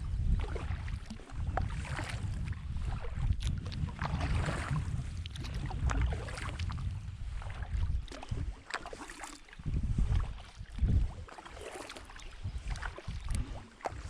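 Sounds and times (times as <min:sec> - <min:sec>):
paddle splashes: 0:00.0 - 0:14.0
wind rumble on microphone: 0:00.0 - 0:14.0.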